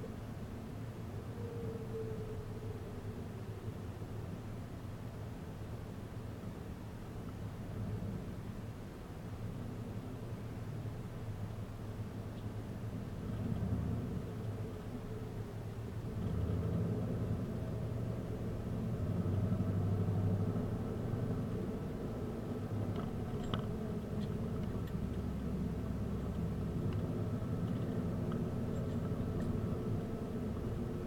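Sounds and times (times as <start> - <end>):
road noise: 0.0 - 31.0
car engine humming: 2.5 - 31.0.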